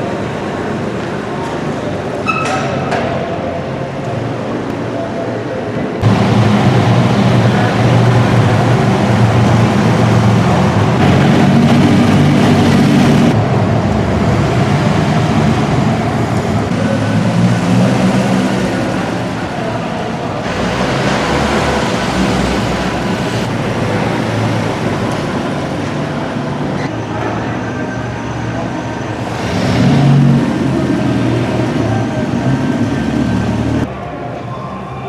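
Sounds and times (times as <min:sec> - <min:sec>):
sports car engines in garage: 0:00.0 - 0:35.0.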